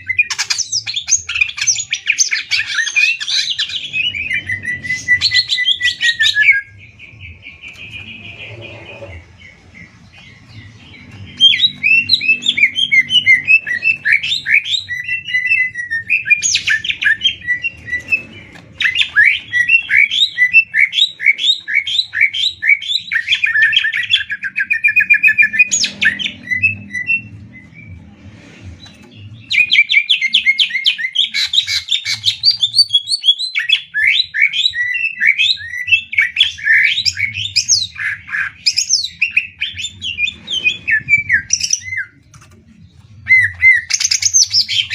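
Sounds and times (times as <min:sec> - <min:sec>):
birds singing rapid chattering song: 0:00.0 - 0:44.9.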